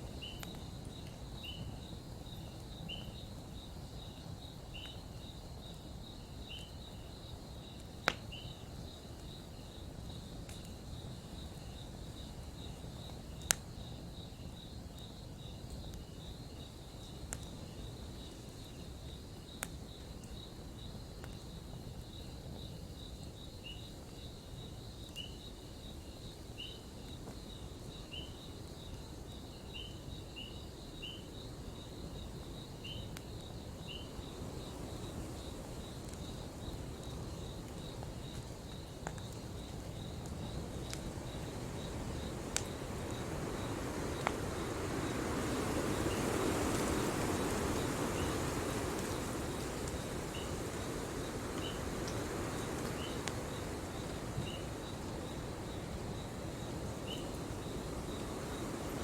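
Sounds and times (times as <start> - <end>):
campfire crackling and popping: 0.0 - 25.7, 31.4 - 59.0
crickets chirping: 0.0 - 59.0.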